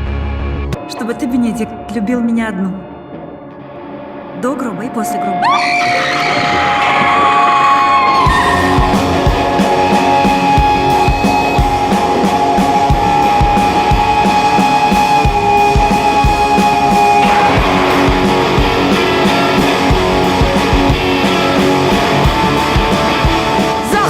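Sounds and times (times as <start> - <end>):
rock trailer music: 0.0 - 0.9, 1.7 - 4.7, 8.0 - 24.0.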